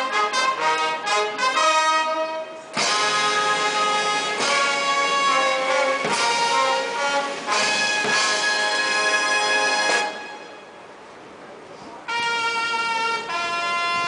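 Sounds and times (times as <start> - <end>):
brass band playing chords: 0.0 - 11.0, 12.0 - 14.0.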